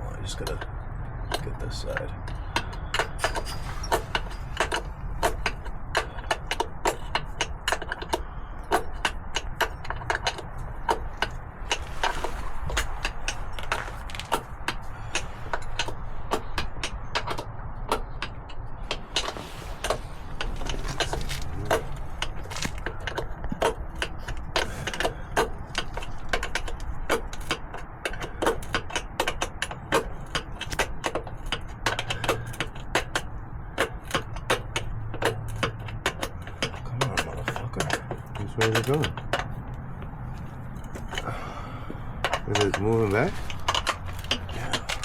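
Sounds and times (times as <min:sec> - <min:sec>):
low steady hum: 0:00.0 - 0:45.0
metallic clicks and knocks of tools: 0:00.3 - 0:19.4, 0:20.9 - 0:45.0.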